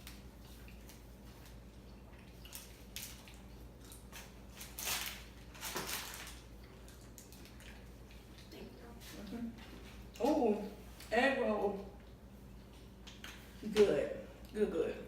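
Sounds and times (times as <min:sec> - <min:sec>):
food crackling: 0:00.0 - 0:13.7
low room hum: 0:00.0 - 0:15.0.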